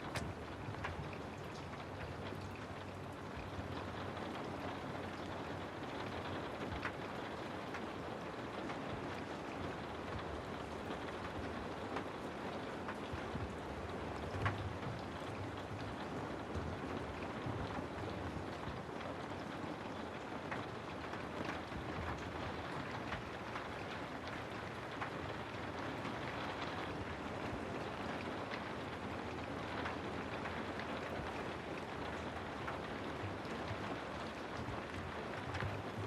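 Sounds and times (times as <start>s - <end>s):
raindrop taps: 0.0s - 36.0s
steady rain: 0.0s - 36.0s.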